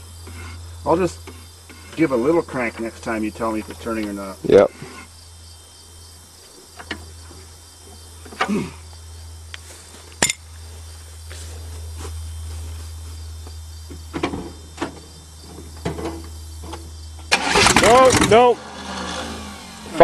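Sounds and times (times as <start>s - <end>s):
crickets chirping: 0.0s - 20.0s
steady low hum: 0.0s - 20.0s.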